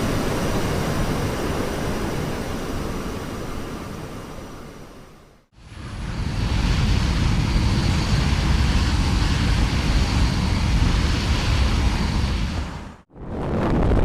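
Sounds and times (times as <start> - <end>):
aeroplane engines droning: 0.0 - 13.4.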